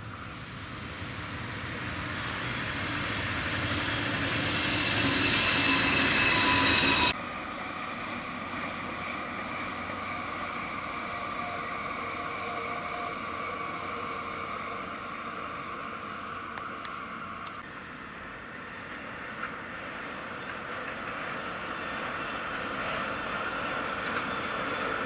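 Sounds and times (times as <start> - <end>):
distant train running: 0.0 - 25.0
electric train passing: 0.0 - 25.0
train wheels squealing: 1.2 - 17.4, 20.0 - 25.0.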